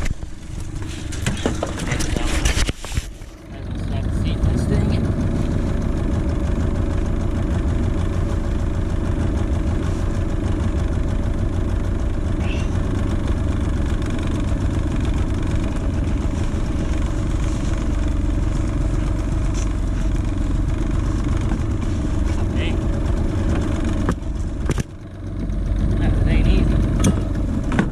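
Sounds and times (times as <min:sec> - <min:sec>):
outboard motor running: 0:00.0 - 0:27.9.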